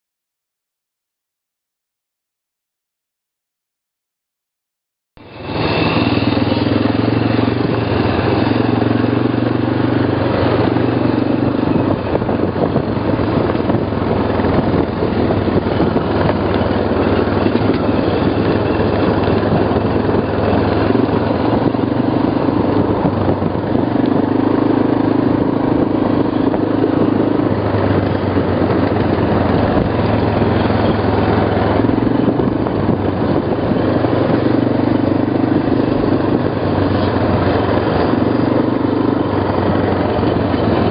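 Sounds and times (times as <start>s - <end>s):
quad bike engine running: 5.2s - 40.9s.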